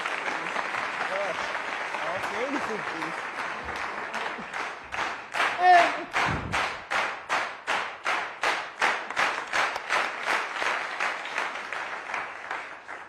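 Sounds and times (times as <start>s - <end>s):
audience clapping in unison: 0.0s - 13.0s.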